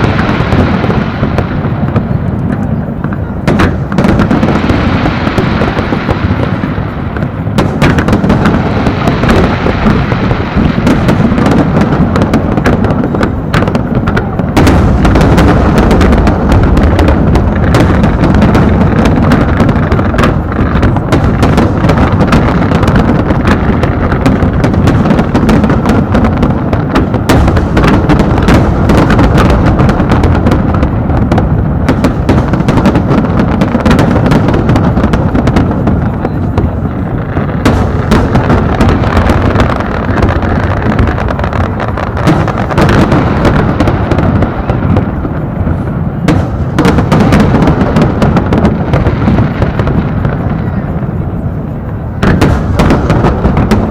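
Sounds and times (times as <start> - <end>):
fireworks booming and cracking: 0.0 - 53.9.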